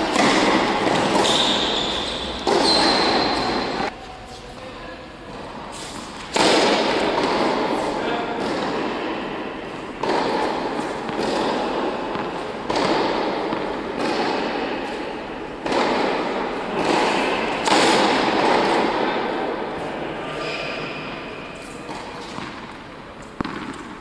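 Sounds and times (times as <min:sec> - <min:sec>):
racket hitting tennis ball: 0:00.0 - 0:03.9, 0:05.3 - 0:24.0.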